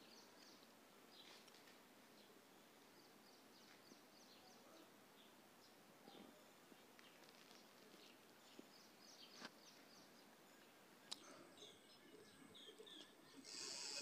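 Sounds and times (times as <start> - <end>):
faint bird chirps: 2.1 - 14.0.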